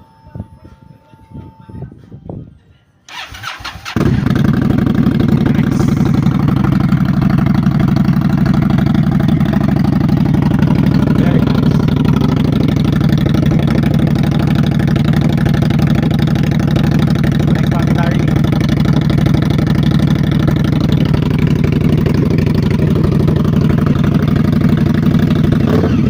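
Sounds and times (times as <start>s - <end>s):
motorcycle starting and idling: 3.1s - 26.0s.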